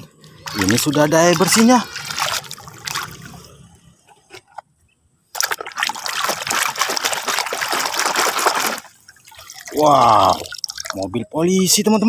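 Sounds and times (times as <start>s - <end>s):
water splashing and sloshing: 0.0s - 11.2s.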